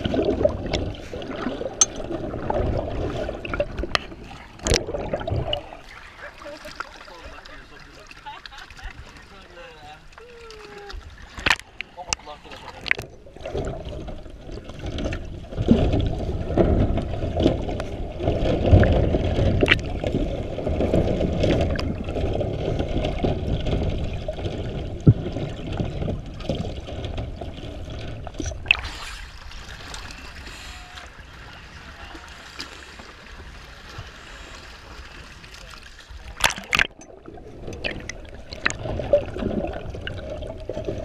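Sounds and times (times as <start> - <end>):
muffled underwater rumble: 0.0 - 9.3, 10.2 - 41.0
water lapping and splashing: 0.0 - 41.0.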